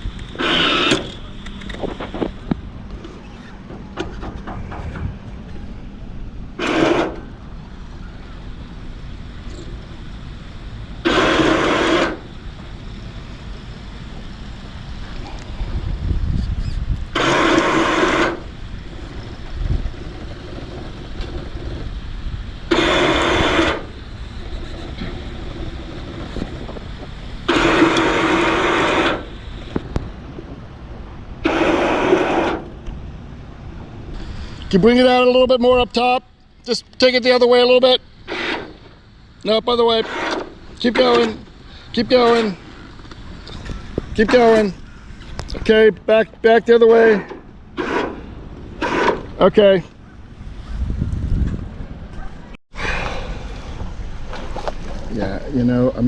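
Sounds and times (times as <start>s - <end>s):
wind noise: 0.0s - 36.0s, 41.4s - 56.0s
powered winch running: 0.0s - 56.0s.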